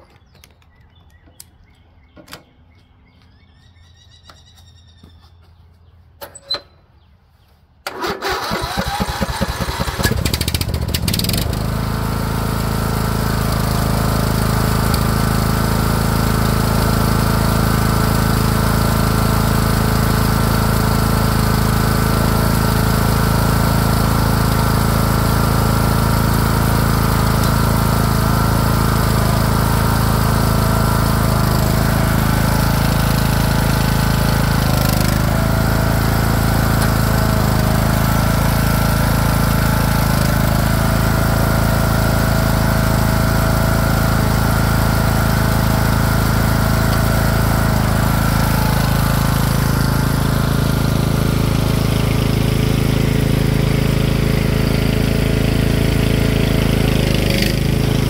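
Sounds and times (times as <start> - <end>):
lawn tractor engine running: 7.8 - 58.0.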